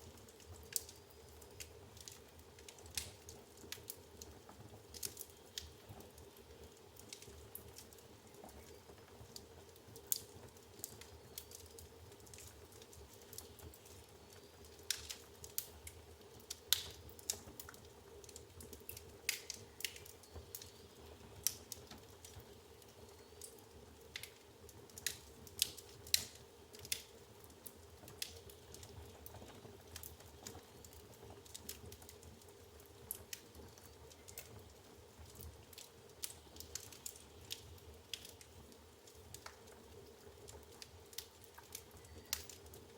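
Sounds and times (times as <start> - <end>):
firewood crackling and popping: 0.0 - 42.9.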